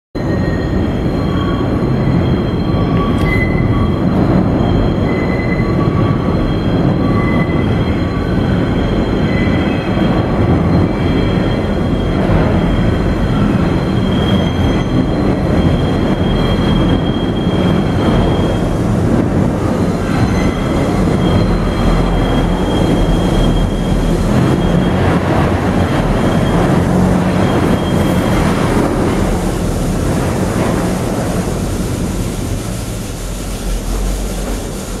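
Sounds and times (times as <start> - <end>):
high wheel squeal: 0.2 - 35.0
train wheels rumbling on rail: 0.2 - 35.0.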